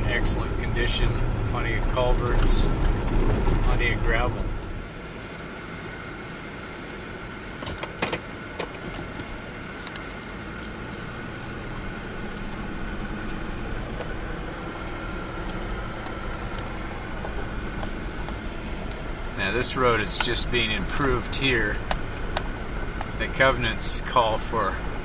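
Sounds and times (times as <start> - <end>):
tyre and road noise on gravel: 0.0 - 25.0.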